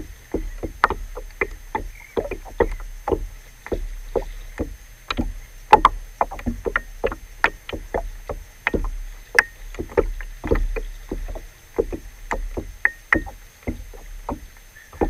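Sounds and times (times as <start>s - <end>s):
waves slapping a kayak hull: 0.0s - 15.0s.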